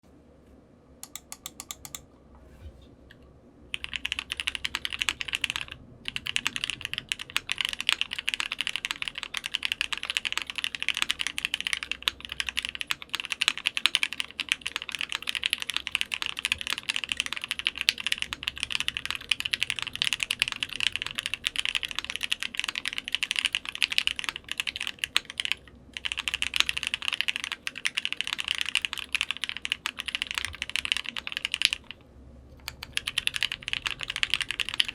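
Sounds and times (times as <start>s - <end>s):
keyboard typing clacks: 1.0s - 2.0s, 3.7s - 32.0s, 32.6s - 34.9s.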